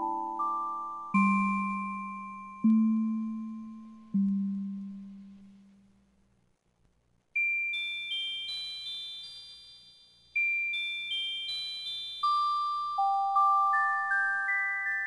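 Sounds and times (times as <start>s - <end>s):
music-box melody: 0.0s - 4.8s, 7.4s - 15.0s.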